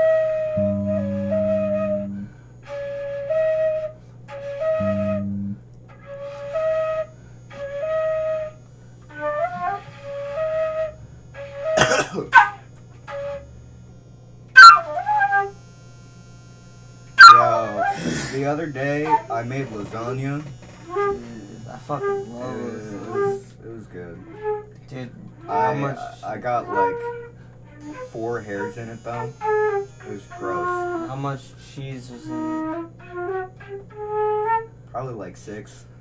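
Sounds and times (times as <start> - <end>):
flute playing short phrases: 0.0 - 13.5, 17.2 - 35.2
low sustained note: 0.0 - 35.6.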